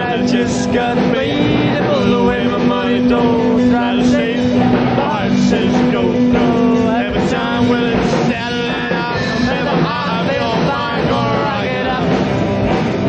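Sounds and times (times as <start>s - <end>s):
drums: 0.0s - 13.0s
electric guitar: 0.0s - 13.0s
person singing: 0.0s - 13.0s.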